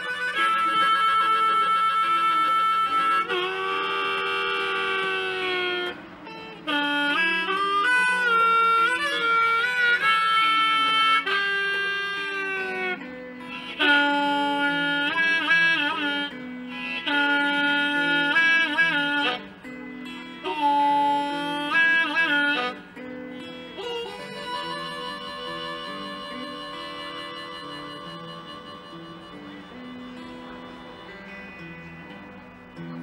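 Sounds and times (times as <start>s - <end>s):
blues harmonica: 0.0s - 33.0s
electric guitar accompaniment: 0.0s - 33.0s.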